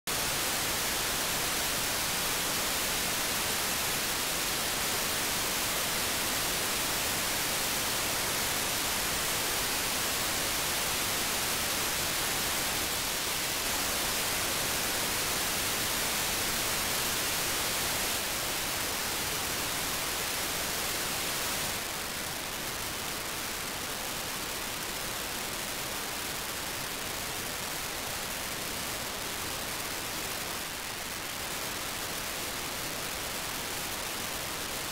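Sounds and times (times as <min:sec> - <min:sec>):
radio noise hiss: 0:00.1 - 0:34.9.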